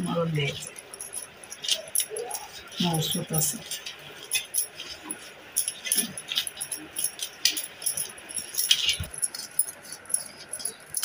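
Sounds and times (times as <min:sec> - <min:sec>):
glass bangles clinking: 0:00.0 - 0:11.0.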